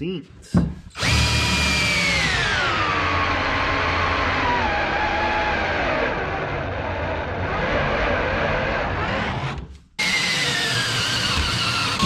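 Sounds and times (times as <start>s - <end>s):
power drill boring through metal: 1.0s - 12.0s.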